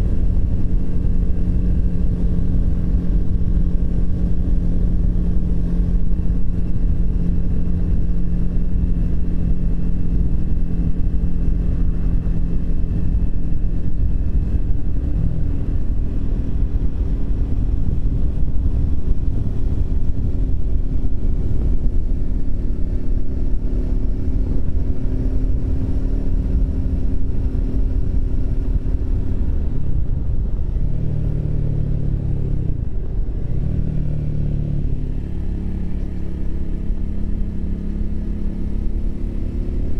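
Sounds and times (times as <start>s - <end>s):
low wind rumble: 0.0s - 39.9s
motorcycle engine cruising: 0.0s - 39.9s.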